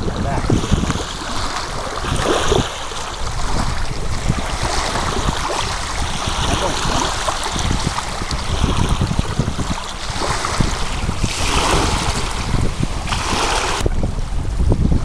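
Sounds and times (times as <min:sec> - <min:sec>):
choppy water rushing: 0:00.0 - 0:15.0
wind buffeting microphone: 0:00.0 - 0:15.0.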